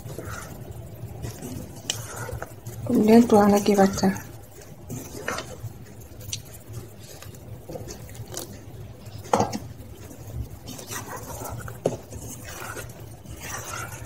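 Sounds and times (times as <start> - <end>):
wet batter stirring and squelching: 0.0 - 14.0.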